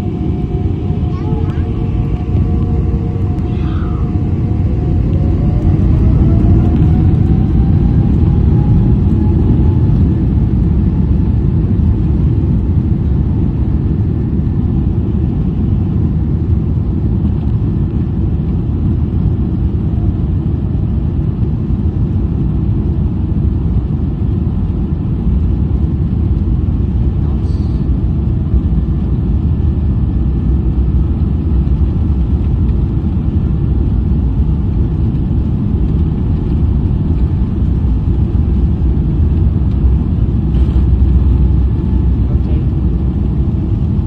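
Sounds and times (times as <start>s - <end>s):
jet engine whine rising: 0.0s - 24.7s, 25.6s - 44.0s
jet engines rumbling: 0.0s - 44.0s.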